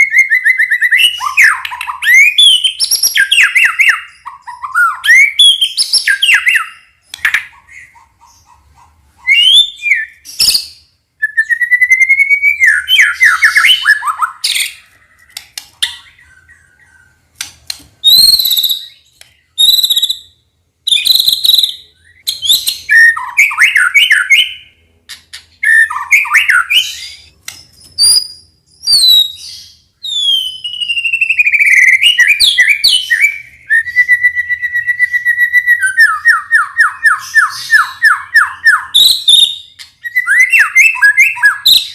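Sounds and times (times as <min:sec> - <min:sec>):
bird singing whistles and trills: 0:00.0 - 0:08.0, 0:09.2 - 0:14.9, 0:18.0 - 0:41.9.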